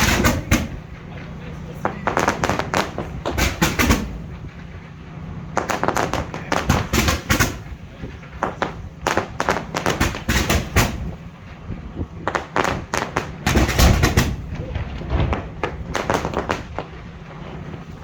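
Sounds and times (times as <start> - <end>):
firework bangs and crackles: 0.0 - 18.0
steady low rumble: 0.0 - 18.0.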